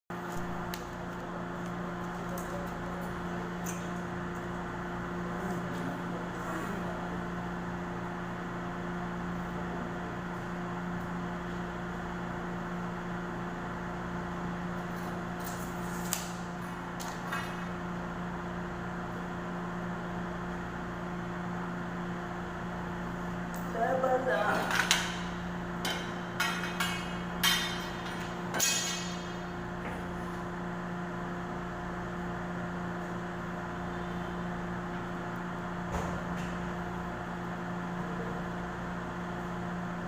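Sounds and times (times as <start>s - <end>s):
mechanical hum: 0.1s - 40.0s.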